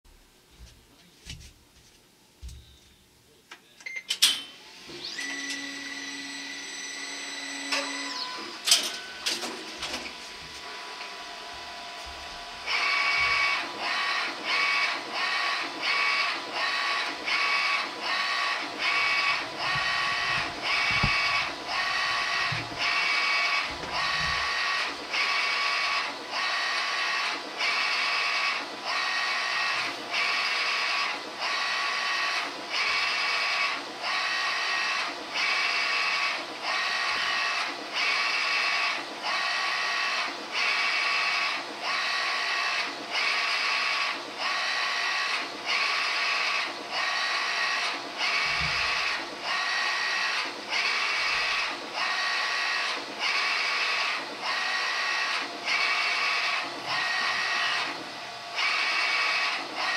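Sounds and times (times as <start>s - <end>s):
print-head carriage motor whine: 4.5s - 59.9s
printer steady hum: 4.6s - 59.9s.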